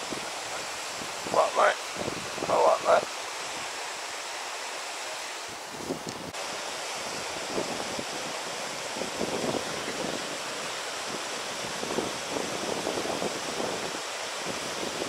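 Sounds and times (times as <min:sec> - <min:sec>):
wind buffeting microphone: 0:00.0 - 0:04.1, 0:05.4 - 0:15.0.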